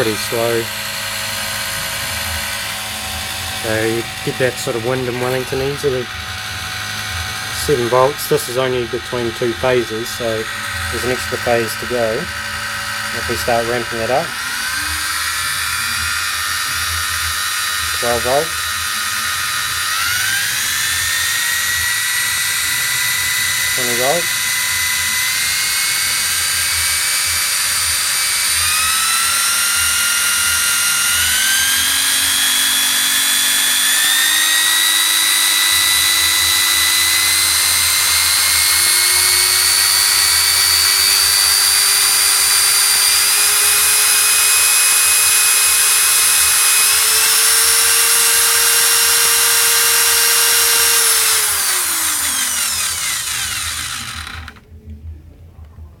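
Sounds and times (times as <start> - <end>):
electric drill whine: 0.0 - 54.7.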